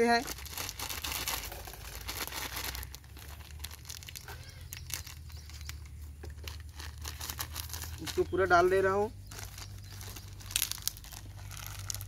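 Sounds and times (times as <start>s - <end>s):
packet crinkling and tearing: 0.0s - 8.6s, 9.2s - 12.0s.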